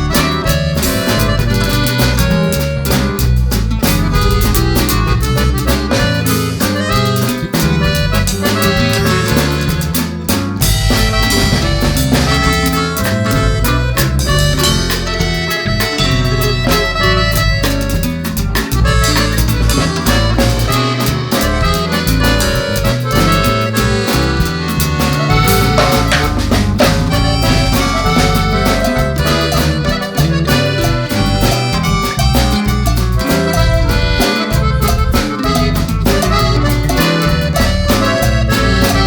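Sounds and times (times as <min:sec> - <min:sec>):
upbeat music with drums and accordion: 0:00.0 - 0:39.0.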